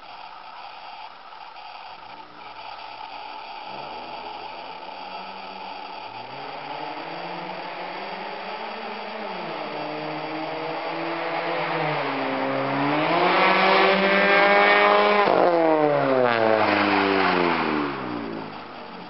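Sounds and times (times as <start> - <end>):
car accelerating past: 3.7 - 19.0.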